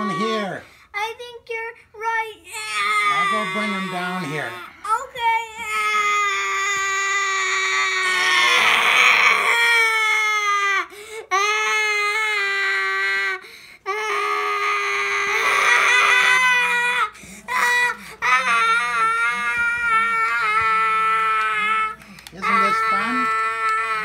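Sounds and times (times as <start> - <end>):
baby crying: 0.0 - 0.6, 2.5 - 4.8, 5.5 - 24.0.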